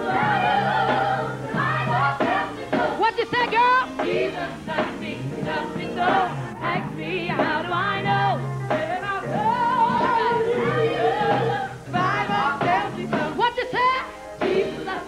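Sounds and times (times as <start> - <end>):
woman singing gospel: 0.0 - 15.0.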